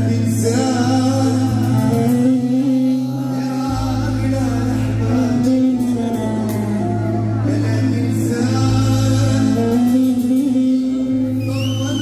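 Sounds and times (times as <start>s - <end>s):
band accompaniment: 0.0s - 12.0s
man singing: 0.0s - 12.0s.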